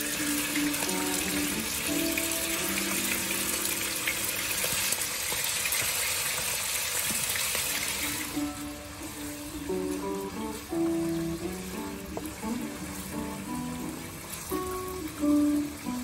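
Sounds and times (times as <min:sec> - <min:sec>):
soft background music: 0:00.0 - 0:05.3, 0:07.5 - 0:16.0
beef sizzling in a wok: 0:00.0 - 0:16.0.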